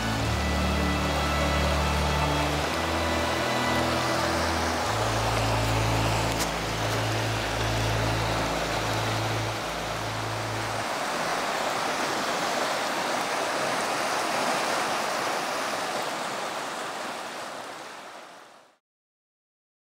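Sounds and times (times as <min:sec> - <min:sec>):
river rushing over rapids: 0:00.0 - 0:18.8.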